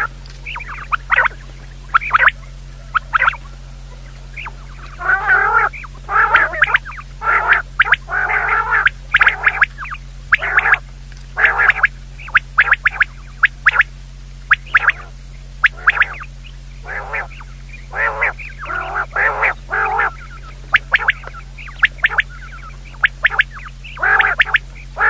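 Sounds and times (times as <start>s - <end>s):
quail calls: 0.0s - 25.0s
steady low hum: 0.0s - 25.0s.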